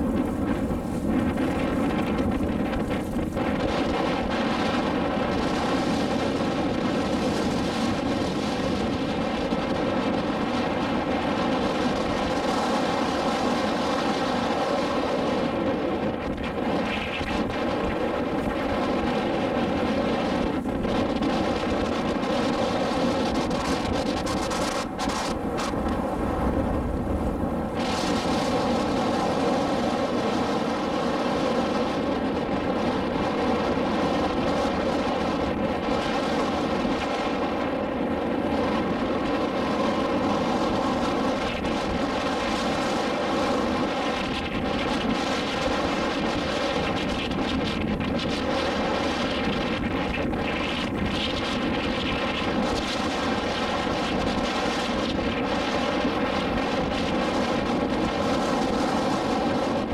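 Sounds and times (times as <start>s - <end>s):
motorboat engine droning: 0.0s - 59.9s
wind noise on microphone: 0.0s - 59.9s.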